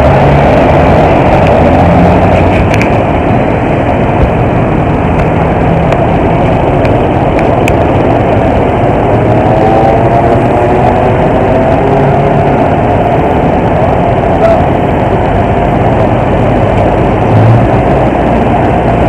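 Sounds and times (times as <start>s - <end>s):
motorcycle engine rumbling: 0.0s - 19.0s
traffic engines: 0.0s - 19.0s.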